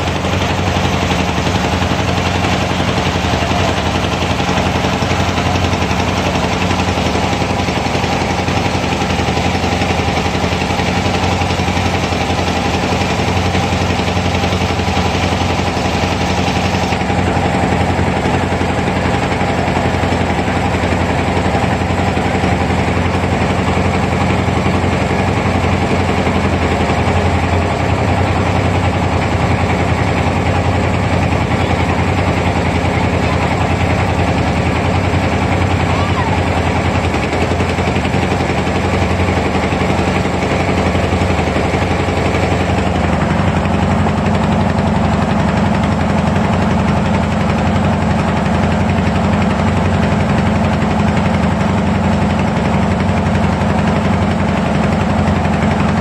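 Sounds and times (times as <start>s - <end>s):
boat engine knocking steadily: 0.0s - 56.0s.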